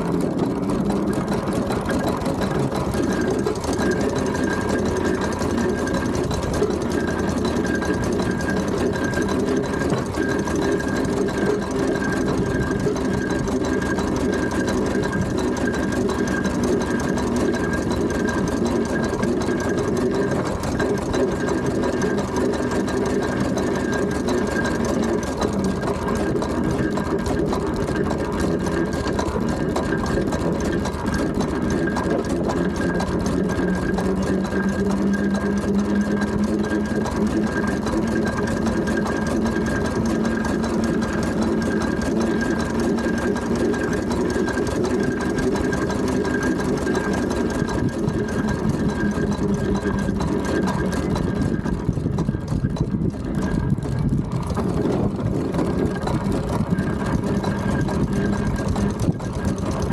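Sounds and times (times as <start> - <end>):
steam engine mechanical clatter: 0.0 - 59.9.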